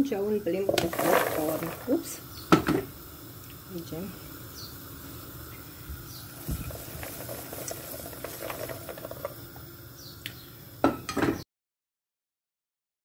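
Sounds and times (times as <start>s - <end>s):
popcorn crackling in a pot: 0.0s - 10.7s
steady hiss: 0.0s - 10.9s.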